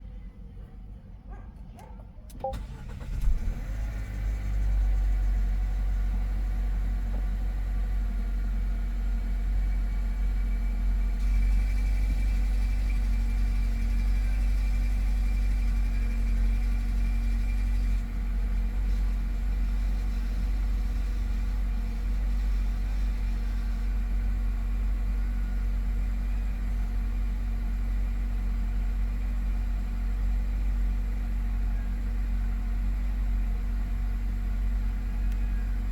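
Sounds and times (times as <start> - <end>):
car engine starting and idling: 1.8 - 35.9.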